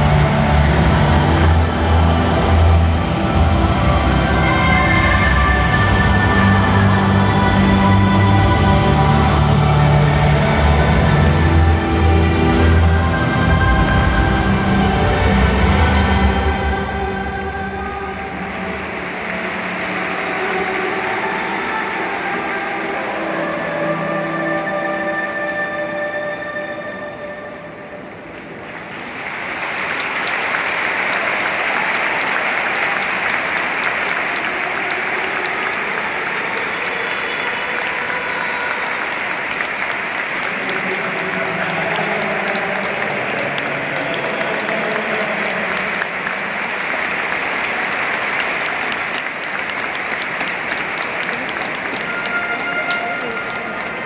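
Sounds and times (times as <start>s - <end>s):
stadium crowd applauding: 0.0s - 26.8s, 28.3s - 54.0s.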